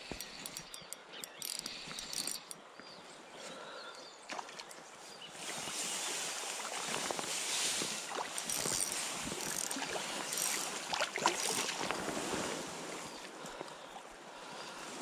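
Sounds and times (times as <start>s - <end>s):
running river water: 0.0s - 15.0s.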